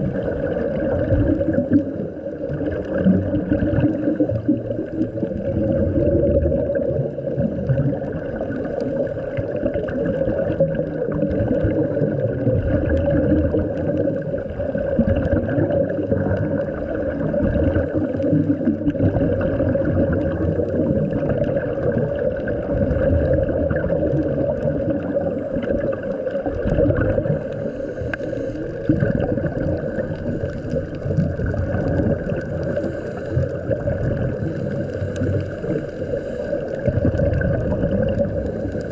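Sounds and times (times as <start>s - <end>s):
regulator bubbles gurgling: 0.0s - 38.9s
steady low underwater drone: 0.0s - 38.9s.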